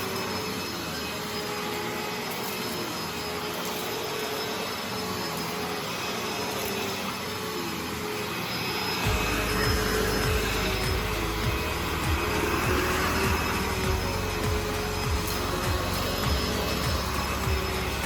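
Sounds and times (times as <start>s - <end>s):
vacuum cleaner motor hum: 0.0s - 18.0s.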